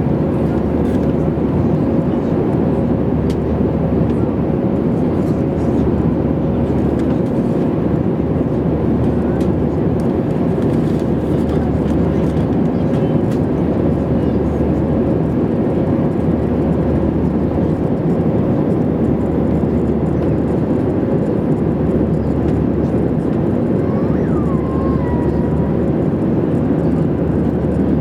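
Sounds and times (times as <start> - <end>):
jet cabin engine noise: 0.0 - 28.0.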